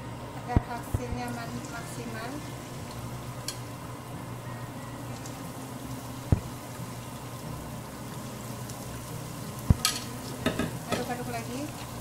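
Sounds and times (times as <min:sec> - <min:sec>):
batter sizzling in hot oil: 0:00.0 - 0:12.0
oil bubbling in a wok: 0:00.0 - 0:12.0.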